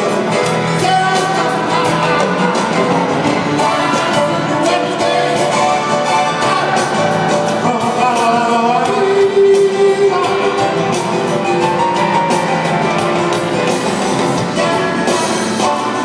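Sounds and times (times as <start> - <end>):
person singing: 0.0 - 12.7, 14.3 - 16.0
distant live band music: 0.0 - 16.0.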